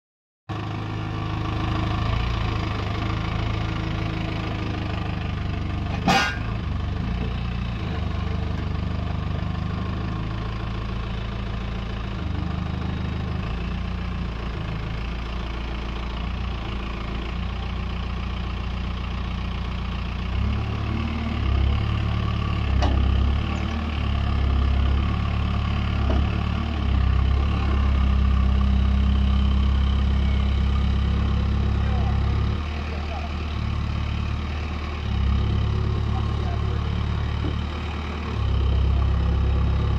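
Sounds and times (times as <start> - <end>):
diesel engine under load: 0.5 - 39.9.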